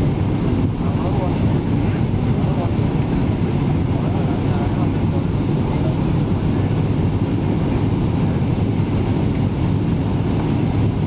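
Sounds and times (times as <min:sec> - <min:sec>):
aircraft cabin rumble: 0:00.0 - 0:11.0
airflow over fuselage: 0:00.0 - 0:11.0
jet engines: 0:00.0 - 0:11.0.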